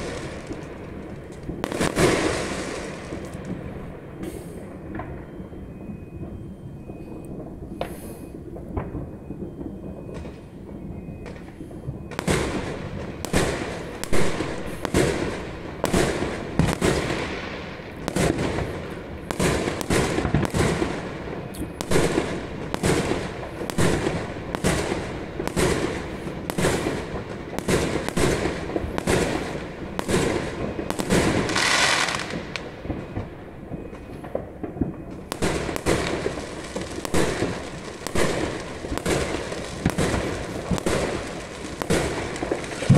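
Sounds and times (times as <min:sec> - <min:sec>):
fireworks bangs: 0:00.0 - 0:42.9.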